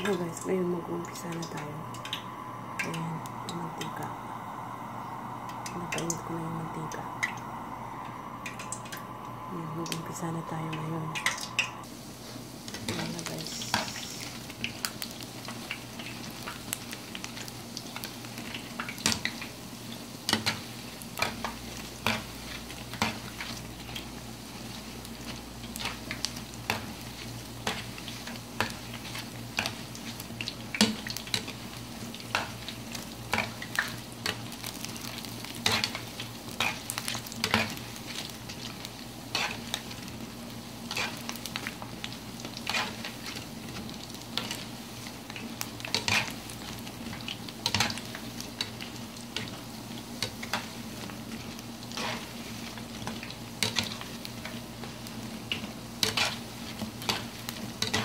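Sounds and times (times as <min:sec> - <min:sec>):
dough sizzling in hot oil: 0:05.4 - 0:58.0.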